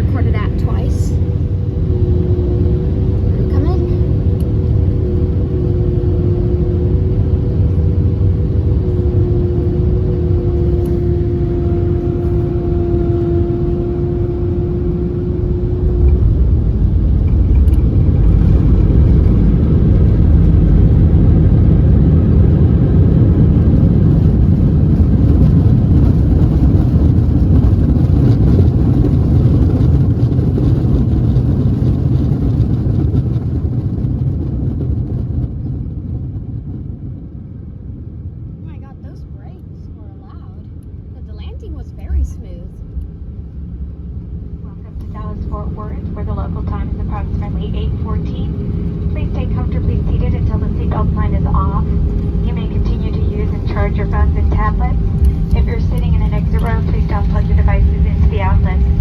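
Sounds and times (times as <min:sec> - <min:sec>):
jet engines whining: 0:00.0 - 0:59.0
plane landing rumble: 0:00.0 - 0:59.0.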